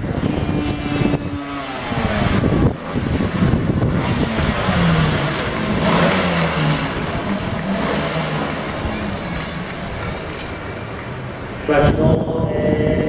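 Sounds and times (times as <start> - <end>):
motorcycle engines revving: 0.0 - 12.3.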